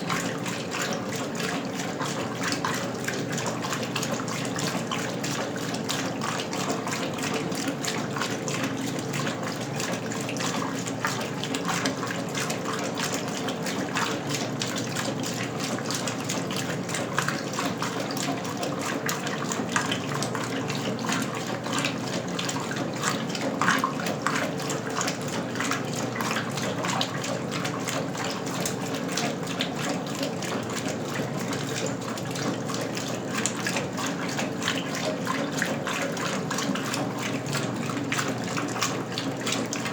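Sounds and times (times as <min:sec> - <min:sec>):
washing machine hum: 0:00.0 - 0:39.9
water splashing in washing machine: 0:00.0 - 0:39.9.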